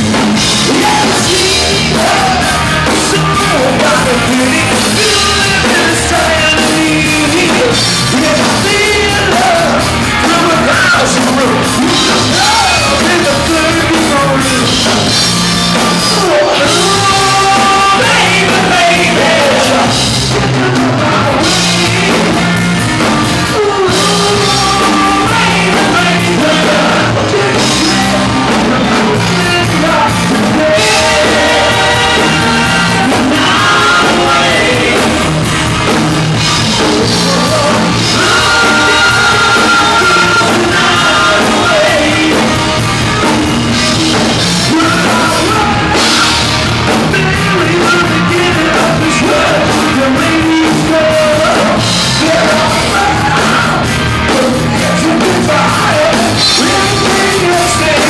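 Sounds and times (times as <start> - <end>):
drum kit: 0.0 - 58.0
electric guitar: 0.0 - 58.0
man singing into a microphone: 0.4 - 15.2, 15.8 - 22.6, 23.4 - 35.5, 36.4 - 58.0.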